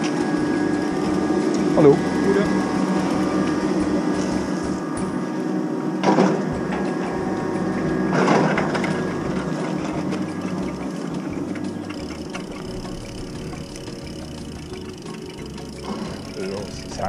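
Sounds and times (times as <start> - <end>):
drag-lift machinery humming: 0.0 - 17.0.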